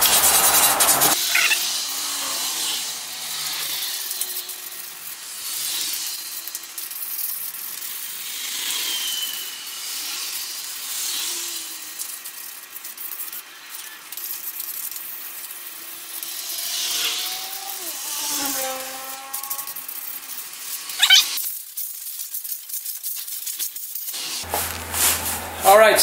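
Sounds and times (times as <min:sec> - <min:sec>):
sandpaper rasping on metal: 0:00.0 - 0:25.8.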